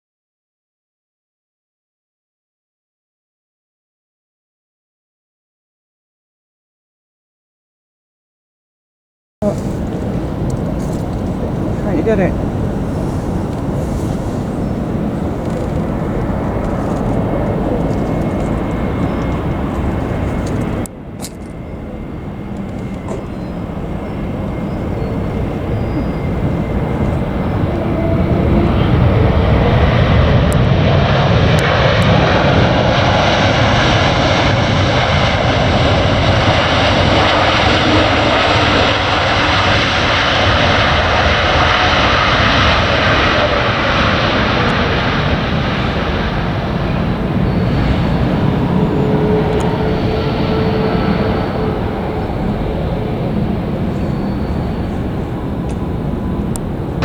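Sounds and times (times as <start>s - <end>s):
jet engines: 9.4s - 57.0s.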